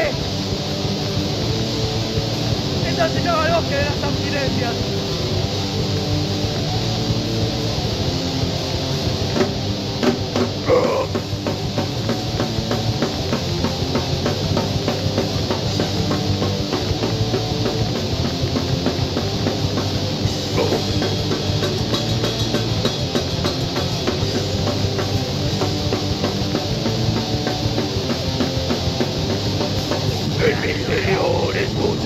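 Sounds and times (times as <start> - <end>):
distorted electric guitars: 0.0 - 32.0
driving drum beat: 0.0 - 32.0.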